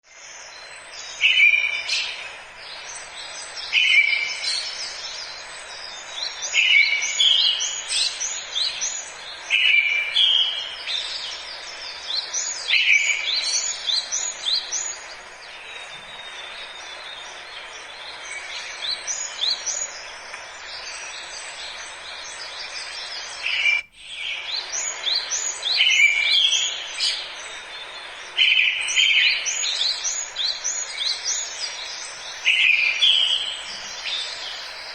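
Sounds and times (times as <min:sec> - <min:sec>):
bird song with high twittering: 0:00.0 - 0:34.9
bird chirps: 0:00.1 - 0:34.9
steady background noise: 0:00.1 - 0:34.9.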